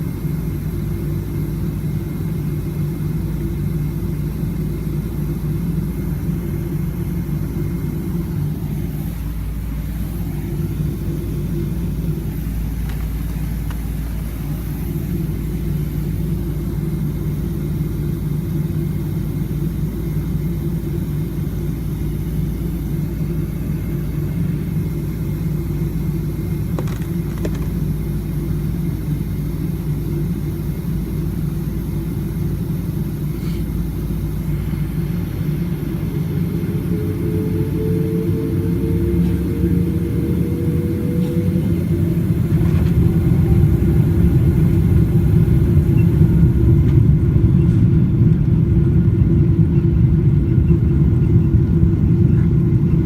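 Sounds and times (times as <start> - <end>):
jet engines low rumble: 0.0 - 53.0.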